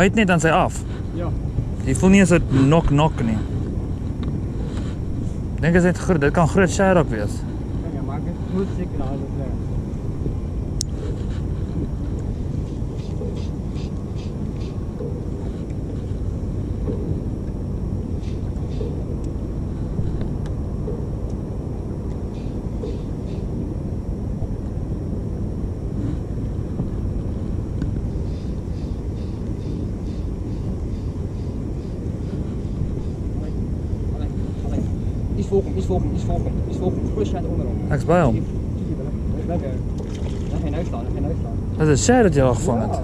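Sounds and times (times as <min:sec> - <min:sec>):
low rumble: 0:00.0 - 0:43.0.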